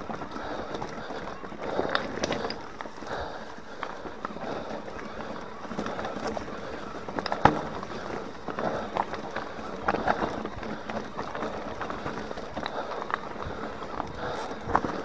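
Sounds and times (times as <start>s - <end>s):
bike rattling over rocks: 0.0s - 15.0s
tyres crunching over stones: 0.0s - 15.0s.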